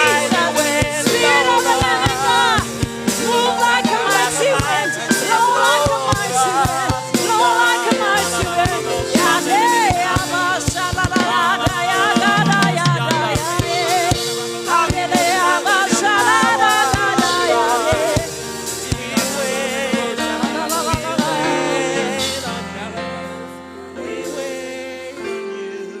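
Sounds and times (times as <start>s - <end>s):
drum hits: 0.0s - 22.6s
held keyboard chords: 0.0s - 26.0s
voices singing with vibrato: 0.0s - 26.0s.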